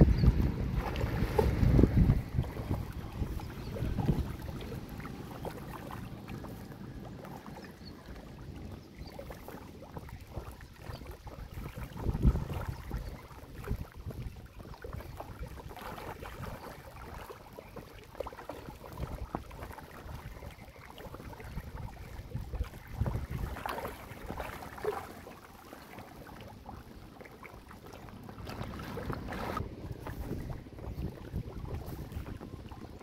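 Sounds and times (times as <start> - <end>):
fish splashing in water: 0.0 - 33.0.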